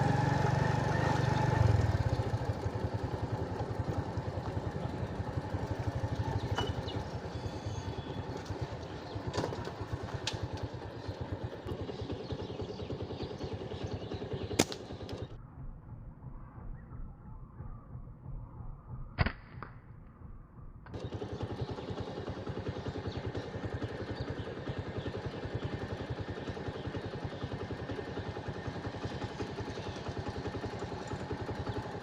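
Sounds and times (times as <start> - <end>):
small engine running: 0.0 - 15.4, 20.9 - 32.0.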